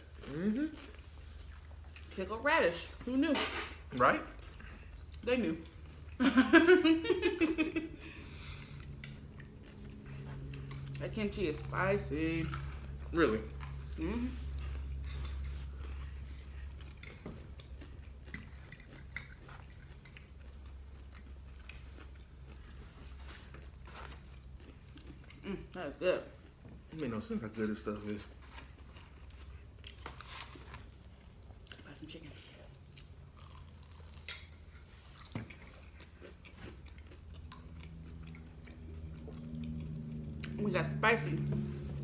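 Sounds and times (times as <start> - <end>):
quiet chewing of food: 0.0 - 2.2, 4.3 - 6.2, 8.0 - 11.0, 12.5 - 27.0, 28.0 - 40.6
low steady hum: 0.0 - 42.0.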